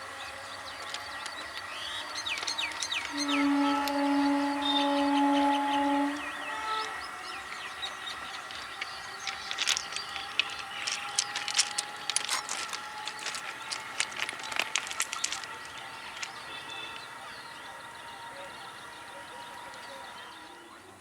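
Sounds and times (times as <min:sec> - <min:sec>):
train wheels clicking on rails: 0:00.0 - 0:20.6
birds chirping: 0:00.0 - 0:21.0.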